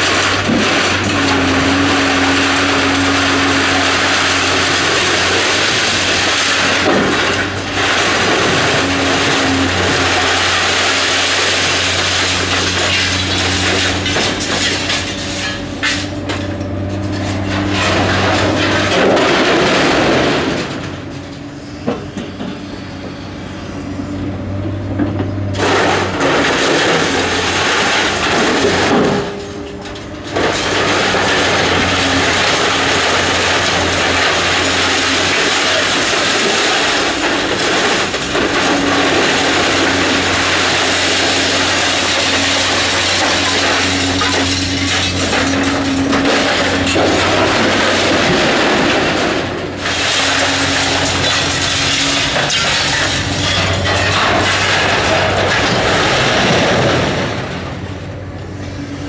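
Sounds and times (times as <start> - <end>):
grapple scraping concrete rubble: 0.0 - 21.4, 25.6 - 57.8
excavator diesel engine: 0.0 - 59.0.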